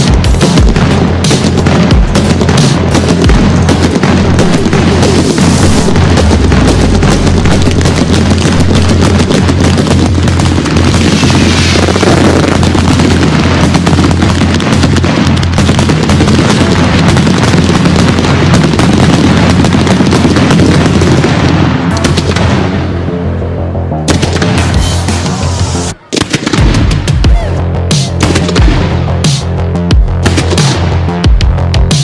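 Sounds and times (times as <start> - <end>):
firecrackers banging: 0.0 - 23.4, 24.0 - 32.0.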